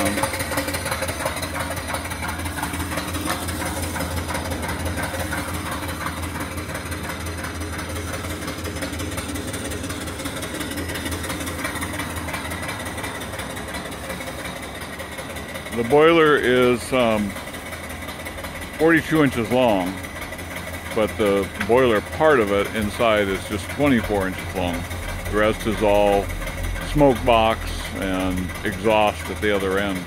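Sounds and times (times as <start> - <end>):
steam engine puffing: 0.0 - 30.0.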